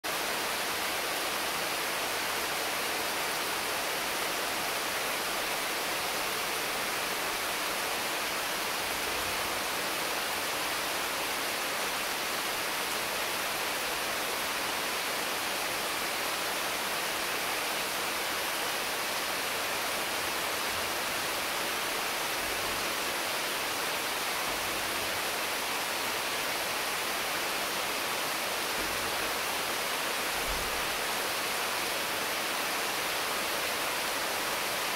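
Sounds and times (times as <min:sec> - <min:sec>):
heavy rain on trees: 0:00.0 - 0:34.9.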